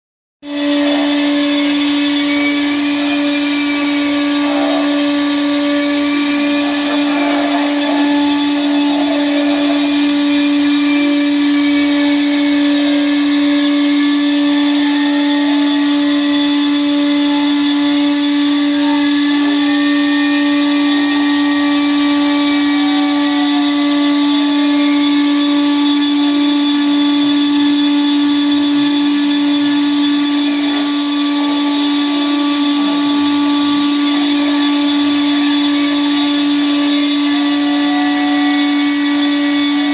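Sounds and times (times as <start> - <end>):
router spindle whining: 0.4 - 39.9.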